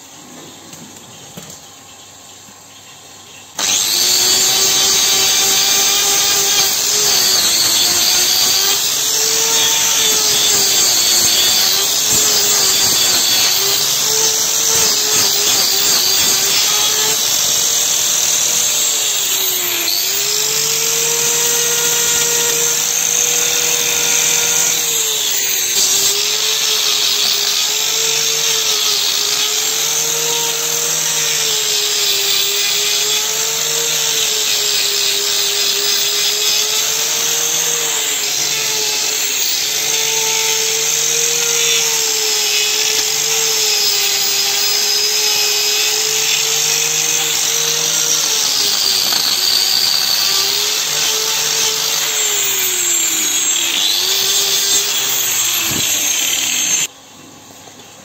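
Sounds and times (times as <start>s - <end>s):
angle grinder grinding hoof: 3.6s - 56.9s.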